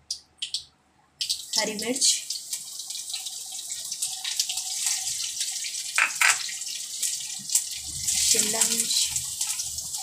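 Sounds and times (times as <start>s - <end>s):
chillies sizzling in ghee: 1.3s - 10.0s.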